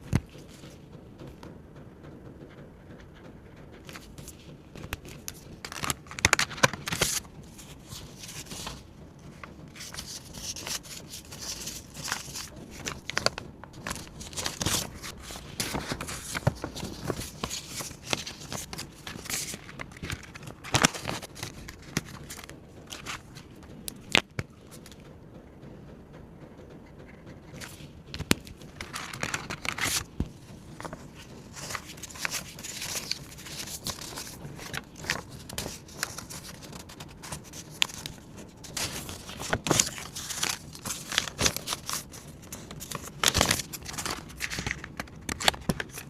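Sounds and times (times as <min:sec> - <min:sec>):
paper rustling and crinkling: 0:00.0 - 0:01.4, 0:03.7 - 0:25.0, 0:27.5 - 0:46.0.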